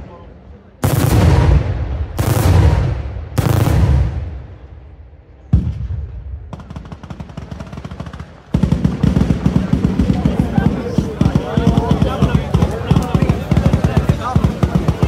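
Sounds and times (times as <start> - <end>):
heavy firework reports: 0.0 - 15.0.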